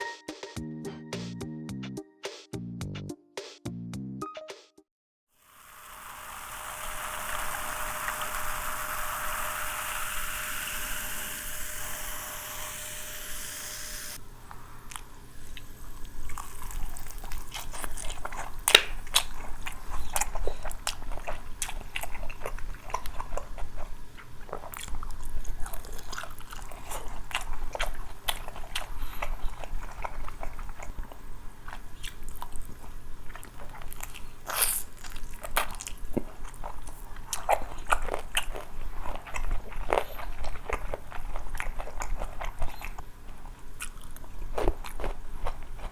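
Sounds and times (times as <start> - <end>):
crunchy chewing of fried chicken: 5.8 - 45.9.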